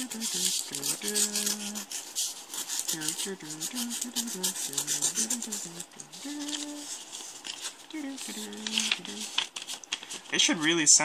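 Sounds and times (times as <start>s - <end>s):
blade cutting paper envelope: 0.0s - 10.4s.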